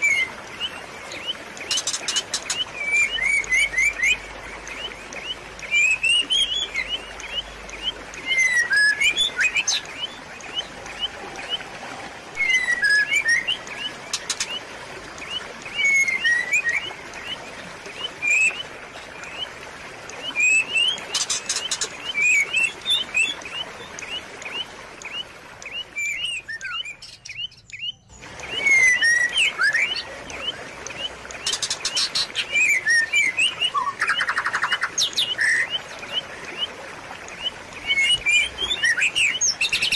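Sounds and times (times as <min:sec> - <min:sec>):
small birds chirping: 0:00.0 - 0:39.9
trickling water: 0:00.0 - 0:39.9.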